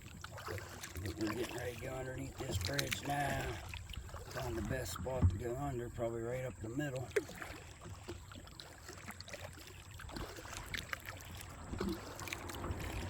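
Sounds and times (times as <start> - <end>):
kayak paddle stroking water: 0.0 - 13.0
water dripping off paddle: 0.0 - 13.0.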